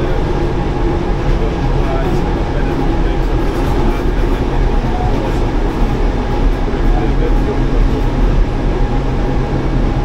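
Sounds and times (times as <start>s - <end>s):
train rumble and rail noise: 0.0s - 10.0s.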